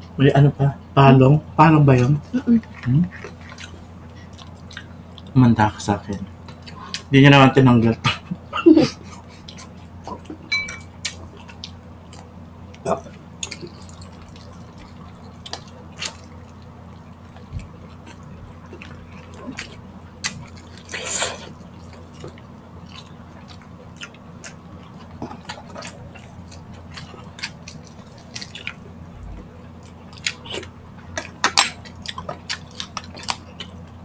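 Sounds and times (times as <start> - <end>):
steady low hum: 0.0 - 34.0
chewing with wet mouth clicks: 2.6 - 5.4, 6.0 - 7.1, 9.2 - 34.0.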